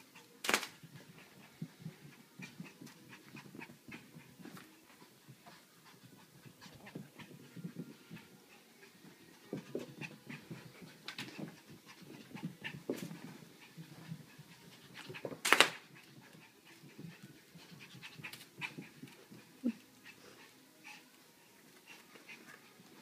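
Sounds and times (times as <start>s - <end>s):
puppy panting: 0.0s - 23.0s.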